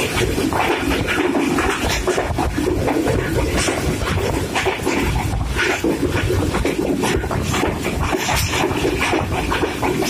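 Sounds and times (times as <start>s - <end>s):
rushing noise: 0.0s - 10.0s
train knocks and rattles: 0.0s - 10.0s
train wheels rumbling on track: 0.0s - 10.0s.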